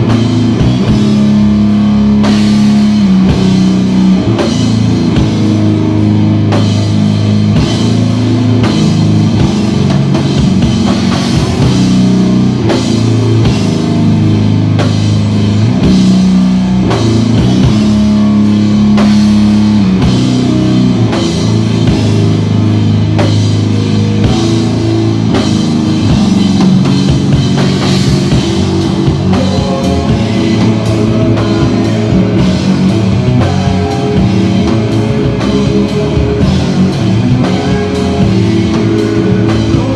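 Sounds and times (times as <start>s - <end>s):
instrumental rock band playing: 0.0s - 39.9s.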